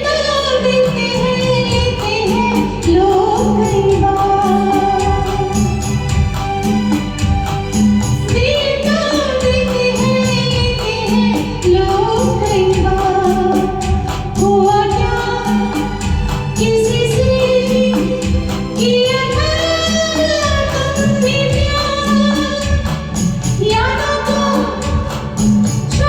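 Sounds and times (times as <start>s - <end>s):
instrumental music with steady beat: 0.0s - 26.0s.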